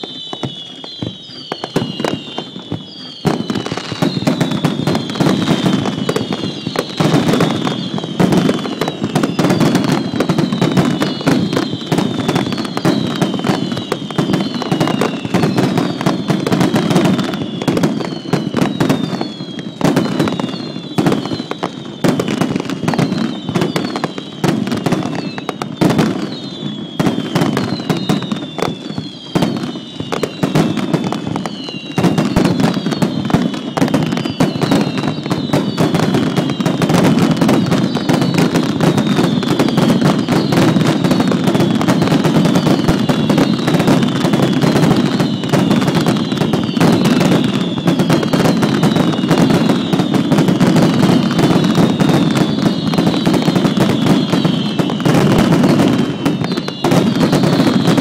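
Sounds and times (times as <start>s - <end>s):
falling firework whistles: 0.0s - 58.0s
fireworks crackling and popping: 0.0s - 58.0s.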